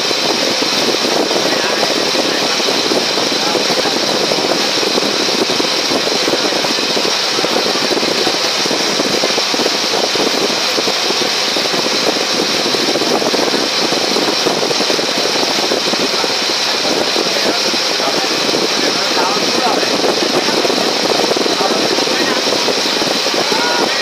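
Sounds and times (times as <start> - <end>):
ferry engine drone: 0.0 - 24.0
wind buffeting microphone: 0.0 - 24.0.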